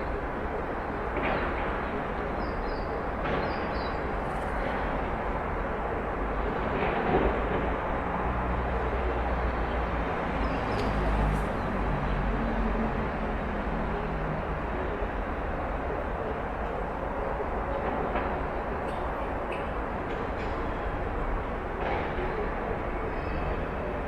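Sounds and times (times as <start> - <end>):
distant noise with low rumble: 0.0 - 24.0.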